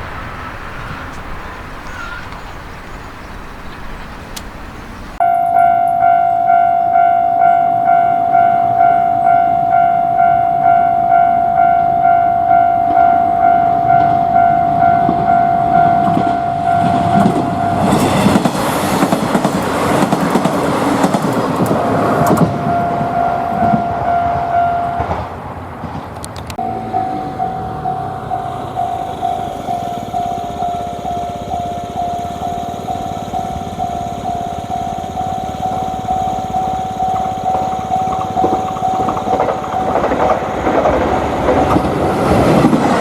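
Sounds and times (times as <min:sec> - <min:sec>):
train wheels on track: 0:00.0 - 0:43.0
level-crossing warning bell: 0:05.2 - 0:25.4, 0:26.5 - 0:43.0.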